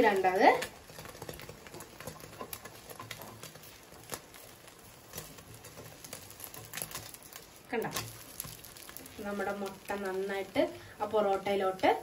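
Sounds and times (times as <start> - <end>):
butter and egg sizzling in pan: 0.0 - 12.0.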